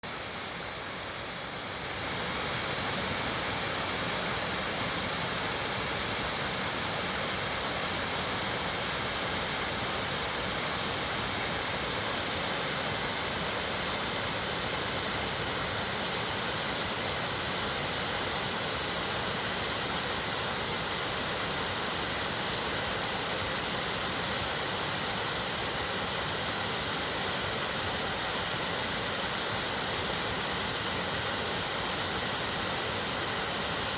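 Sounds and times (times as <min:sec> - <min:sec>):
stream flowing: 0:00.1 - 0:33.9.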